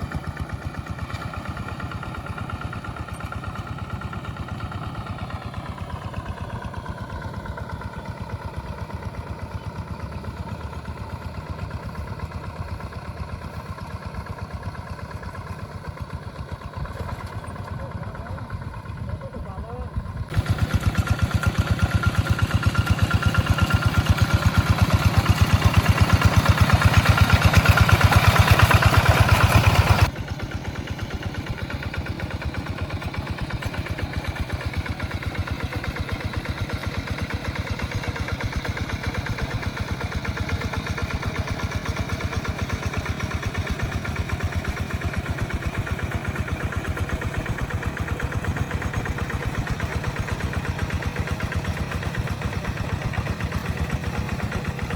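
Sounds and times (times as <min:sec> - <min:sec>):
tractor engine chugging: 0:00.0 - 0:54.9.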